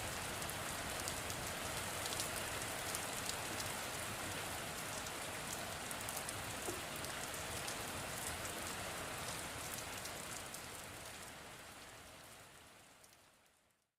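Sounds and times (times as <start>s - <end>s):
steady rain hiss: 0.0s - 13.7s.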